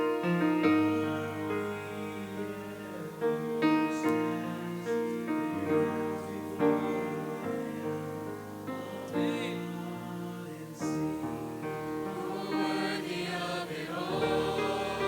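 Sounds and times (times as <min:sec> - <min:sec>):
piano playing sustained chords: 0:00.0 - 0:15.0.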